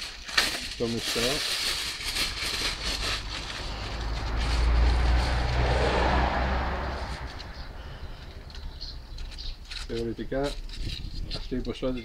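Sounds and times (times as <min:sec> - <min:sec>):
aluminium foil rustling: 0:00.0 - 0:06.0, 0:08.2 - 0:12.0
passing vehicle engine rumble: 0:01.0 - 0:11.8.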